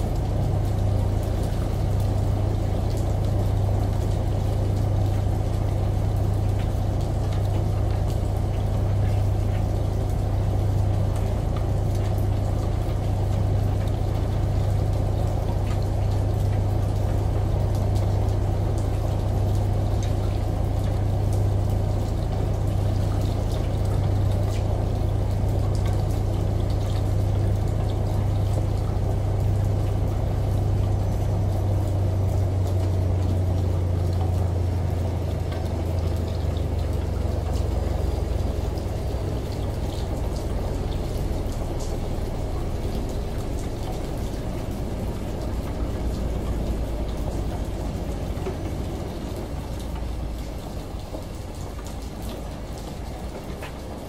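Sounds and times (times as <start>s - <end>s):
laundry tumbling and water sloshing: 0.0s - 54.0s
washing machine motor hum: 0.0s - 54.0s.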